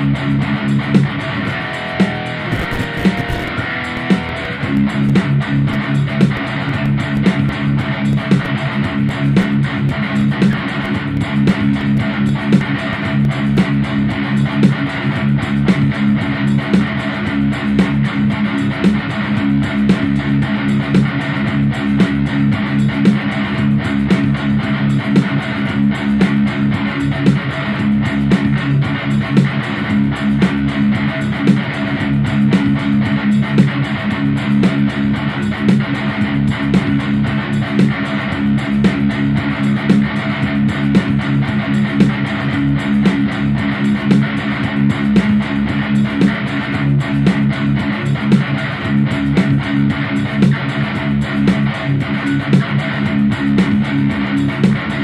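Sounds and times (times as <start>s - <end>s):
guitar-led instrumental music: 0.0s - 55.0s.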